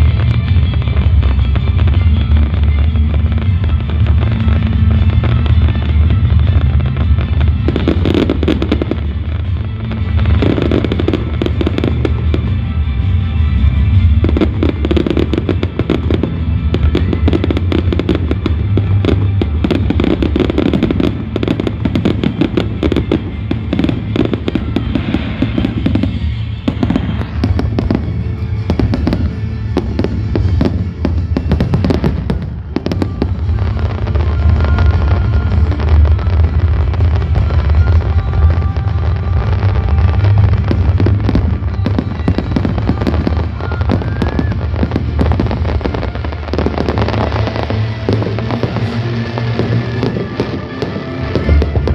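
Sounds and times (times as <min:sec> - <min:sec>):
fireworks bursting and crackling: 0:00.0 - 0:51.9
music playing: 0:00.0 - 0:51.9.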